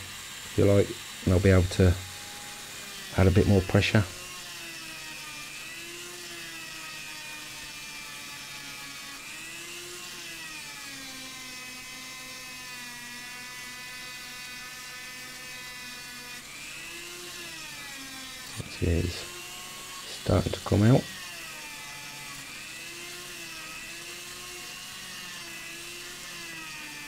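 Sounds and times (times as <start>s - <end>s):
rotary tool high whine: 0.0s - 27.0s.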